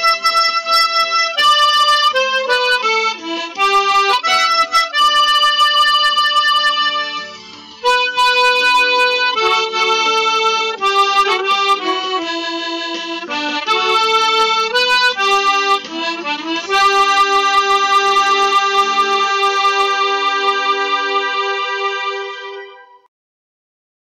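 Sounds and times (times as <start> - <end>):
harmonica melody: 0.0 - 23.1.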